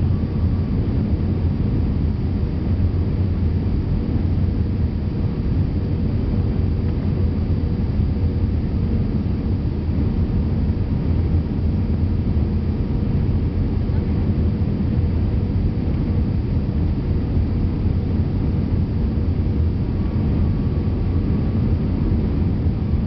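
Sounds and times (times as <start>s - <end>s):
airliner engines rumbling: 0.0s - 23.0s
faint steady hum: 0.0s - 23.0s.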